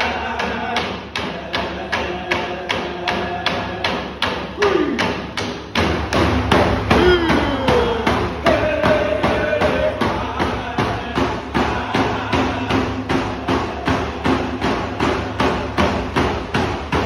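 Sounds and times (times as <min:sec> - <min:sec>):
men singing: 0:00.0 - 0:05.0, 0:06.9 - 0:16.2
frame drums beaten in unison: 0:00.0 - 0:17.0.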